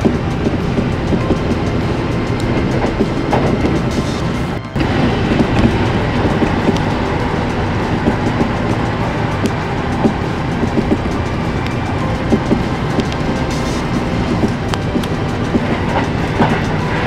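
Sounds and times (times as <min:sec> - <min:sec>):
rail clicks: 0:00.0 - 0:17.0
train wheels rumbling on rail: 0:00.0 - 0:17.0.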